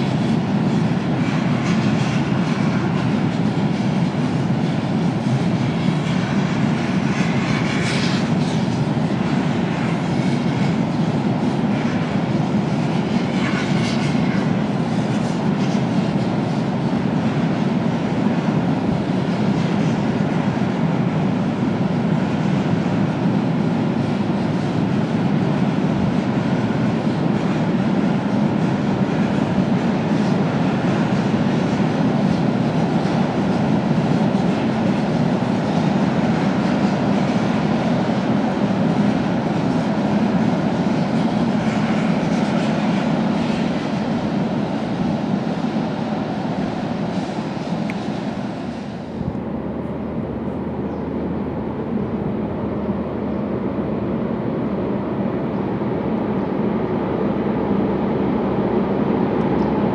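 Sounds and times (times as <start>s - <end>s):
freight train rumbling on bridge: 0.0s - 59.9s.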